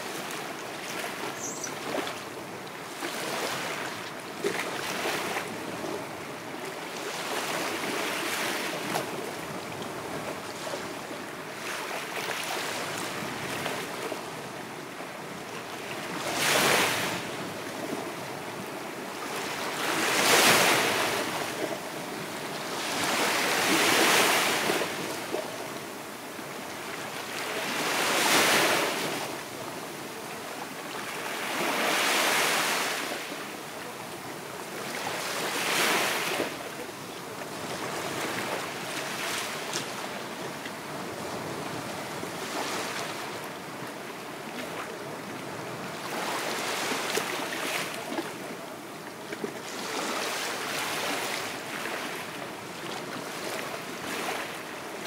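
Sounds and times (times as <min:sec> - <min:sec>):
waves washing on sandy shore: 0:00.0 - 0:55.0.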